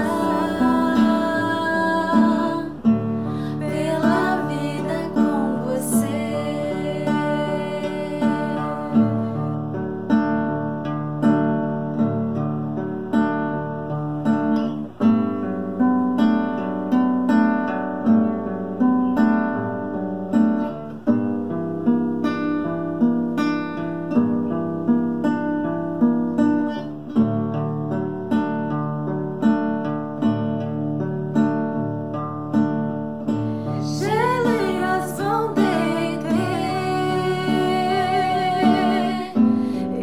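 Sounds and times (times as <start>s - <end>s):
acoustic guitar chords: 0.0s - 40.0s.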